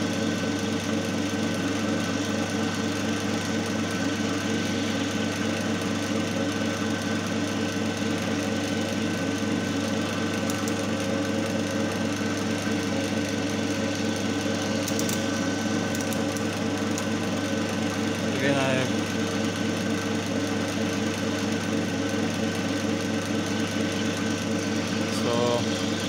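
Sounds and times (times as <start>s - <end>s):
electric motor humming and whirring: 0.0s - 26.0s.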